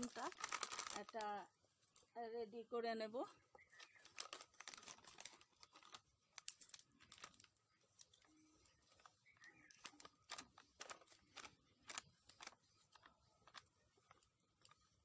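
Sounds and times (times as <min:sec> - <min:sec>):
wood fire crackling: 0:00.0 - 0:01.3, 0:03.6 - 0:15.0.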